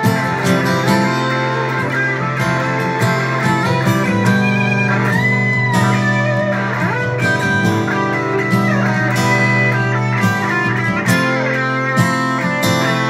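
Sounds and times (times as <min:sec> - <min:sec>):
acoustic guitar chords: 0:00.0 - 0:13.0
electric guitar solo: 0:00.0 - 0:13.0.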